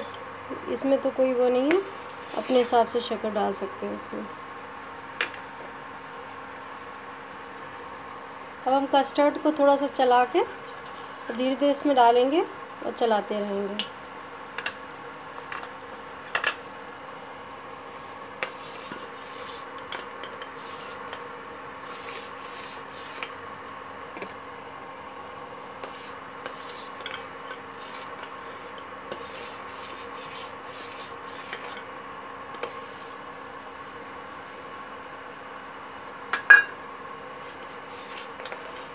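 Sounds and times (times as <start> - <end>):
steady electric hum: 0.0 - 38.9.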